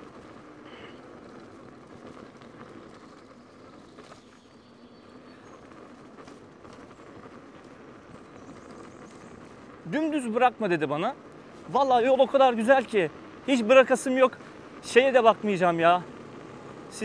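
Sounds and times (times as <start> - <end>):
tyre and wind noise: 0.0 - 17.0.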